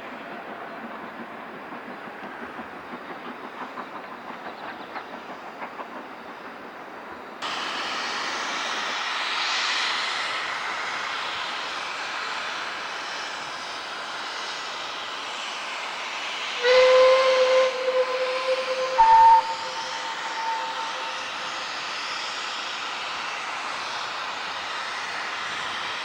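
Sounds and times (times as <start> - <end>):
steam train chuffing: 0.0 - 26.0.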